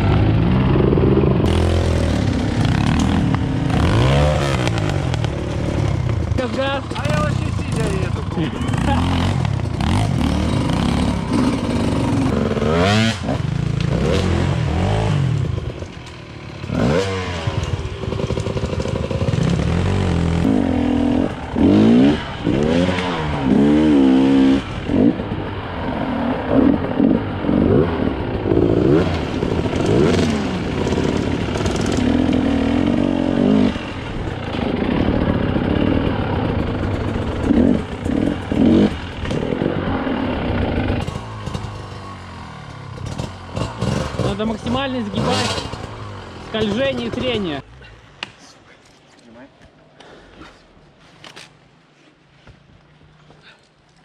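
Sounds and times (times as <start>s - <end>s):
dirt bike engine revving: 0.0s - 47.6s.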